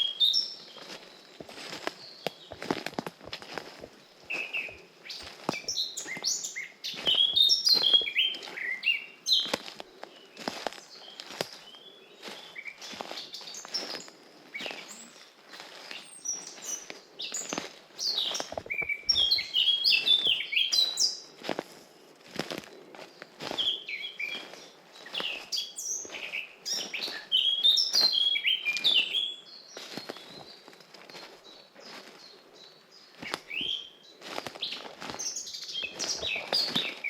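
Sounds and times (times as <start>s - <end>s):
footsteps on forest path: 0.0s - 37.0s
songbirds singing: 0.0s - 37.0s.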